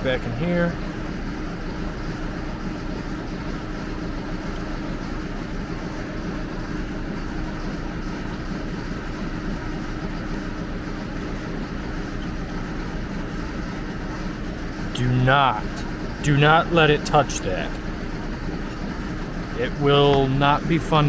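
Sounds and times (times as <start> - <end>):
machine hum and hiss: 0.0 - 21.0.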